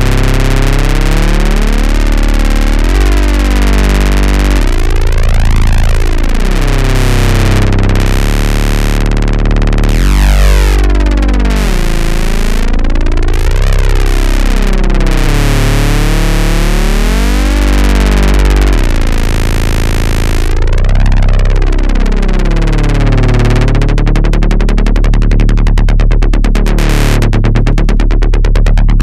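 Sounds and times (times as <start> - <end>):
electronic synthesizer music: 0.0 - 29.0
held bass notes: 0.0 - 29.0.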